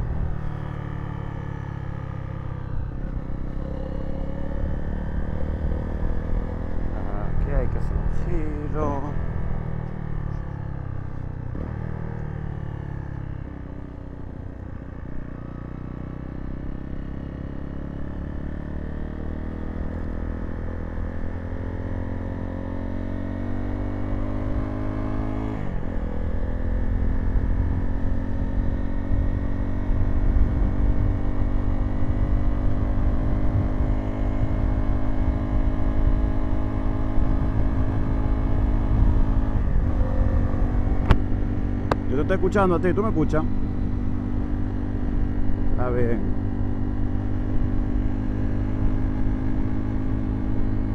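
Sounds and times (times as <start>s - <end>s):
motorcycle engine: 0.0s - 50.9s.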